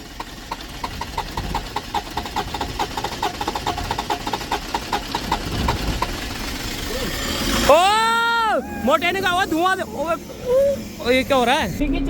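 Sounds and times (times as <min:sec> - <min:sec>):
starter motor cranking engine: 0:00.0 - 0:12.0.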